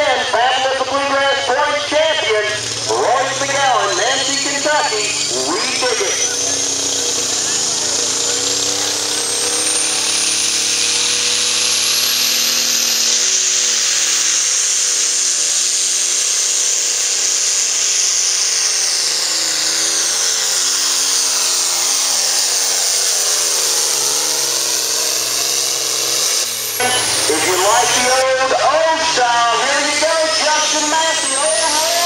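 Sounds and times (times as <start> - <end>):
diesel tractor engine at full throttle: 0.0 - 32.0
high turbo whine: 0.0 - 32.0.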